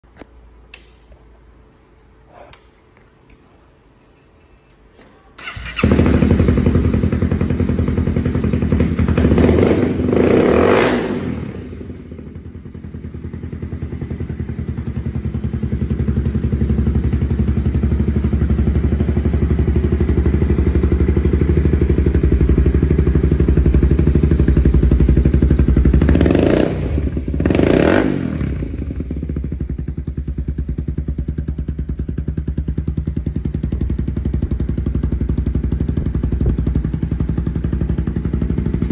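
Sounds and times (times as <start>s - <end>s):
motorcycle engine idling and revving: 5.4s - 38.9s
motorcycle engine starting: 5.4s - 38.9s.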